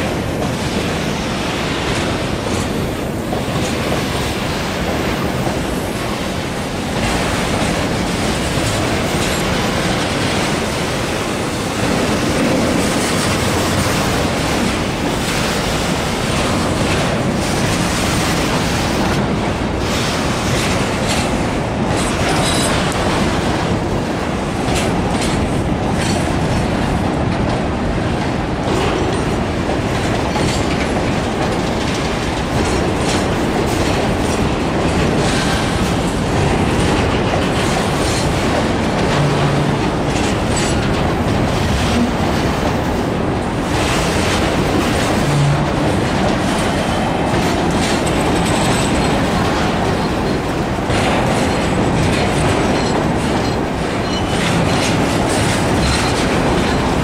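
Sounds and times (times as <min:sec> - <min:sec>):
train wheels rumbling on rail: 0:00.0 - 0:57.0
wheels clacking over rail joints: 0:00.0 - 0:57.0.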